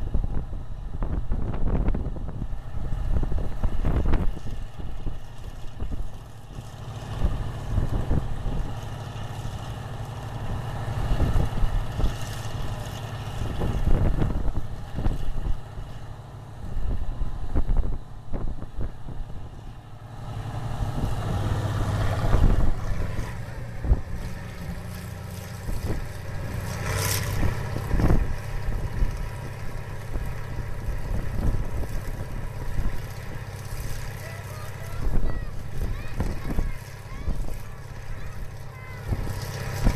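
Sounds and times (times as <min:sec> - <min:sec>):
wind buffeting microphone: 0:00.0 - 0:08.8, 0:10.4 - 0:15.9, 0:16.6 - 0:19.6, 0:20.6 - 0:33.7, 0:34.8 - 0:39.9
tractor engine running: 0:00.0 - 0:39.9.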